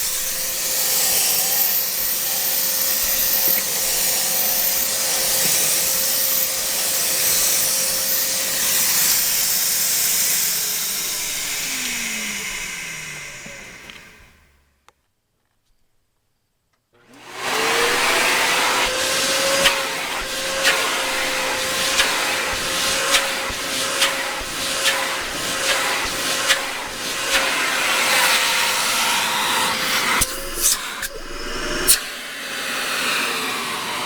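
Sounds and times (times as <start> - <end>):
vacuum cleaner motor whine: 0.0 - 14.8, 17.0 - 34.0.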